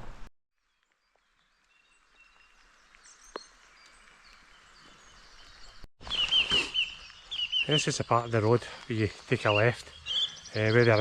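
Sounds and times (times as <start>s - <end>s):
faint birds chirping: 0.6s - 11.0s.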